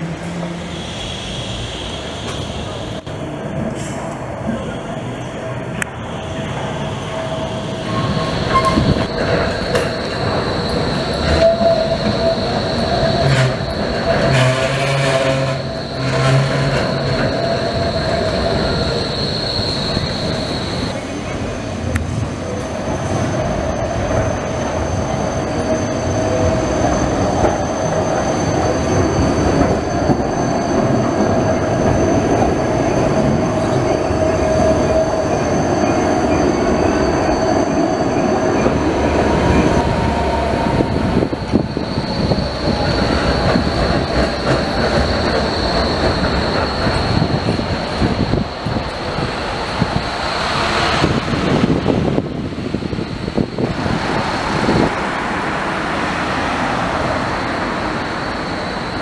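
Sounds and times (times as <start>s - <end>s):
street traffic: 0.0s - 59.0s
tram wheels on rails: 0.0s - 59.0s.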